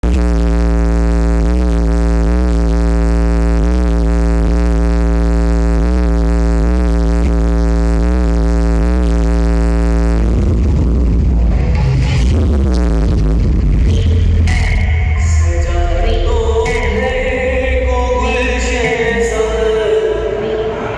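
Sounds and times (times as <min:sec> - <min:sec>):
bass-heavy electronic music: 0:00.0 - 0:20.9.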